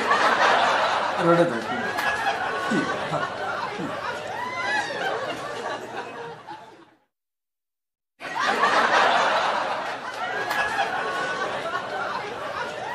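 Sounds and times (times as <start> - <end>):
people laughing and chattering: 0.0 - 7.0, 8.2 - 12.9.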